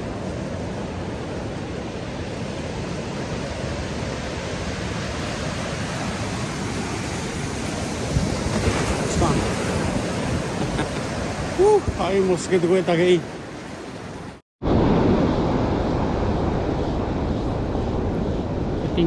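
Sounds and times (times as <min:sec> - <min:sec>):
ocean surf on beach: 0:00.0 - 0:19.0.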